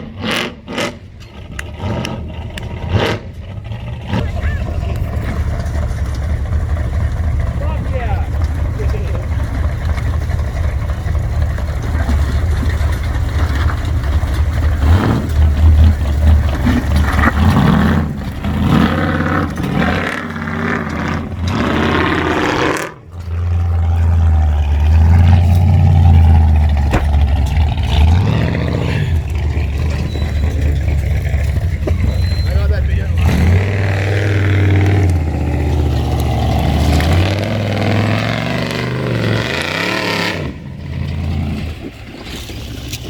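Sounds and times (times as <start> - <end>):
off-road engine revving: 0.0 - 43.0.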